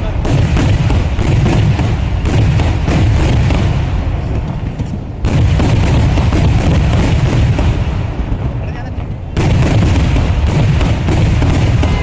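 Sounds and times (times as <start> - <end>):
continuous low rumble: 0.0 - 12.0
fireworks bangs: 0.0 - 12.0.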